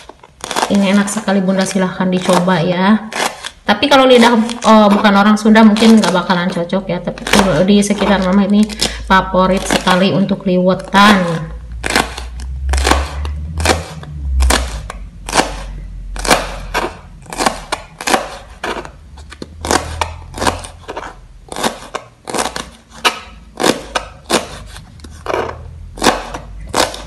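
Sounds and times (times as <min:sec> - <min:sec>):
knife chopping pods on board: 0:00.0 - 0:27.0.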